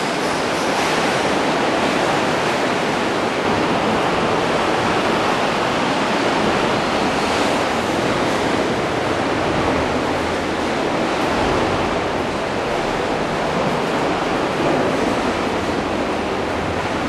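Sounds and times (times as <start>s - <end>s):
sea waves surging against rocks: 0.0s - 17.0s.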